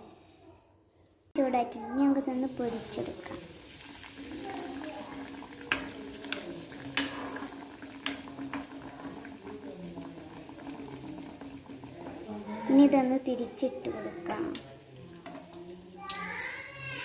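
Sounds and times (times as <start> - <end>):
sandwich sizzling in hot oil: 2.2 - 17.0.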